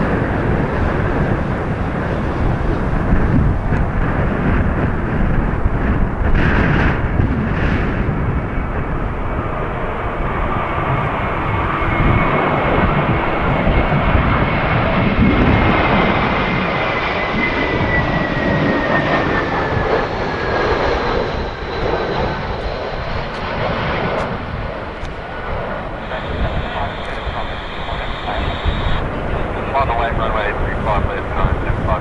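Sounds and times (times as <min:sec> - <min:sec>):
jet engines passing: 0:00.0 - 0:32.0
wind rumbling on microphone: 0:00.0 - 0:32.0.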